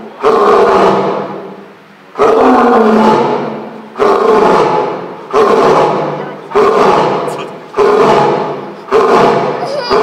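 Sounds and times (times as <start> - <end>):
lion roaring: 0.0 - 10.0.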